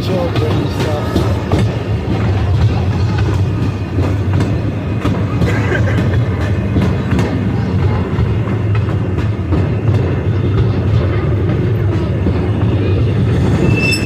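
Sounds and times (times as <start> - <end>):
train rumbling: 0.0 - 14.0
wheels clicking over rails: 0.0 - 14.0.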